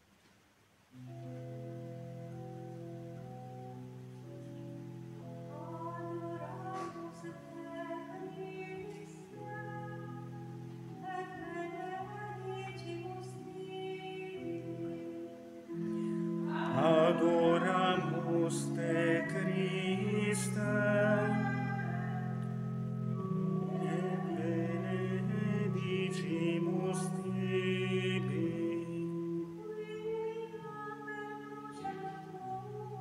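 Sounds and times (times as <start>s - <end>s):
organ chords: 1.0s - 33.0s
liturgical chant singing: 5.5s - 10.4s, 11.0s - 33.0s.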